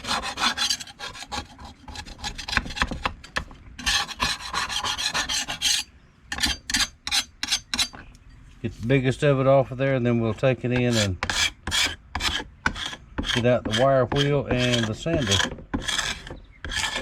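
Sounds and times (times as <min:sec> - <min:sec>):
hand scraper scraping paint: 0:00.0 - 0:03.2, 0:03.8 - 0:07.9, 0:10.2 - 0:17.0.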